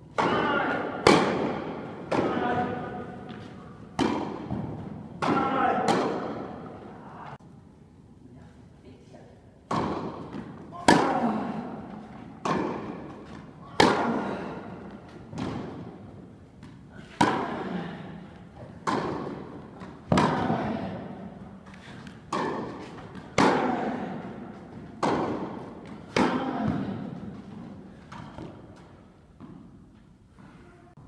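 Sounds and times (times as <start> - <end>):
tennis ball hitting rackets: 0.1 - 6.9, 9.7 - 17.8, 18.4 - 29.9.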